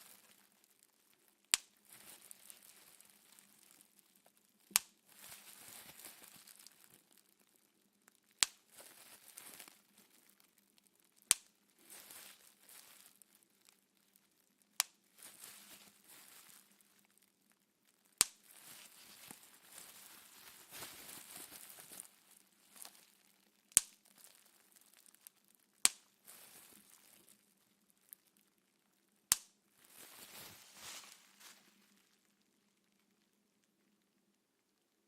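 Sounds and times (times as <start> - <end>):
plastic sheet crinkling: 0.0 - 28.5, 29.8 - 33.0
bubble wrap popping: 0.0 - 34.8.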